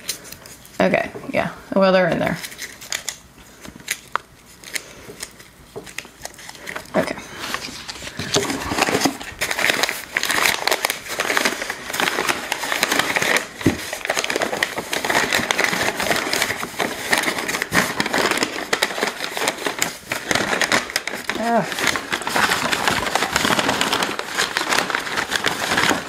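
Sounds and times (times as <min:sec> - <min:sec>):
packing paper crinkling: 0:00.0 - 0:00.9, 0:02.3 - 0:26.0.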